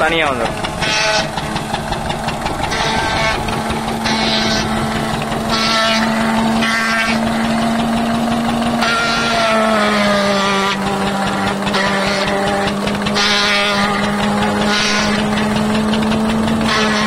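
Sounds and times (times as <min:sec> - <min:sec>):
harsh scraping of leaves in drum: 0:00.0 - 0:17.0
machine hum: 0:00.0 - 0:17.0.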